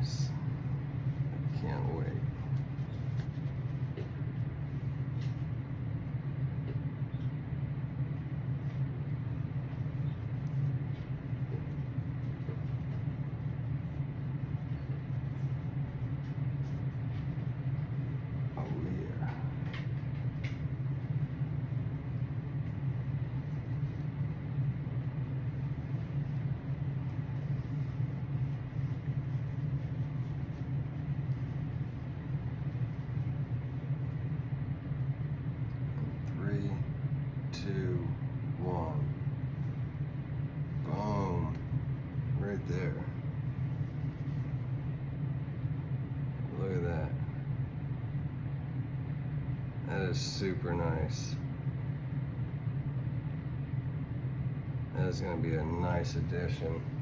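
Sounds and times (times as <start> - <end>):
low rumbling machine hum: 0.0 - 57.0.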